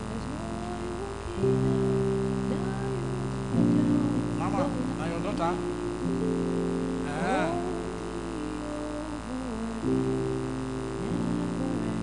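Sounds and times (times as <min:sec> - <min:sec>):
steady low hum: 0:00.0 - 0:12.0
sustained low tones: 0:00.0 - 0:12.0.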